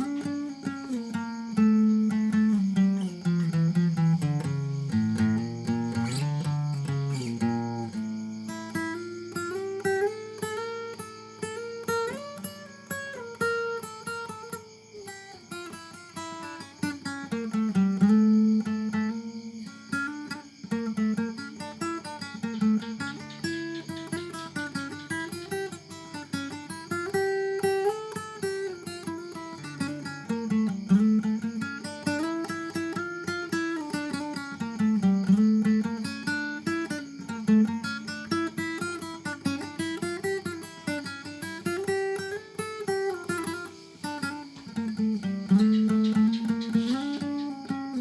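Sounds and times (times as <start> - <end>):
acoustic guitar music: 0.0 - 48.0.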